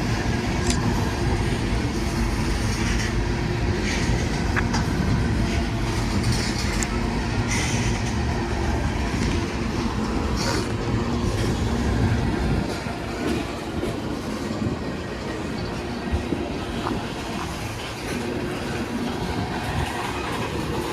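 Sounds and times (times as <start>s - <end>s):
rail clicks: 0.0s - 20.9s
train wheels rumbling on rails: 0.0s - 20.9s.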